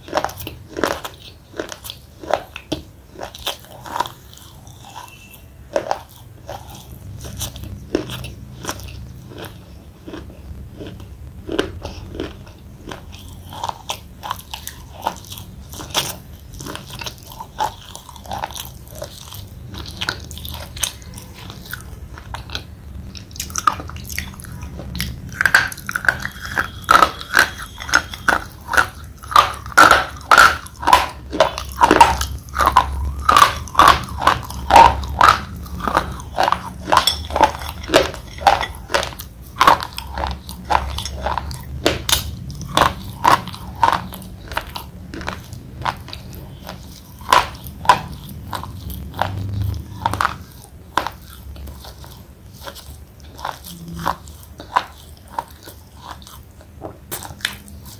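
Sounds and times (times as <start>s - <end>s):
pencil being chewed crunching: 0.0s - 57.9s.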